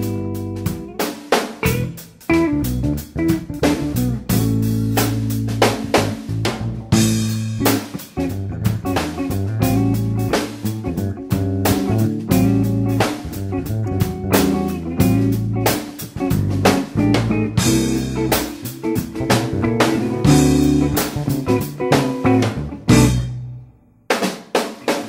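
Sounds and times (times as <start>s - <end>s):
drum kit beat: 0.0s - 25.0s
guitar: 0.0s - 25.0s.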